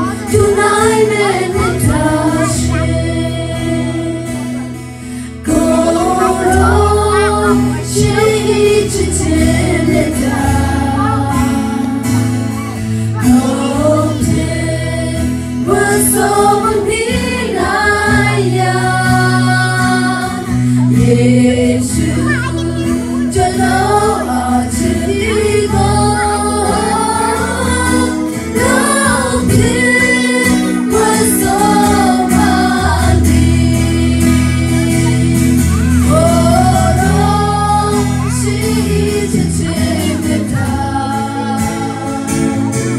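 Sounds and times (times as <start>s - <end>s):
group singing a hymn: 0.0s - 42.9s
long-held bass notes: 0.0s - 42.9s.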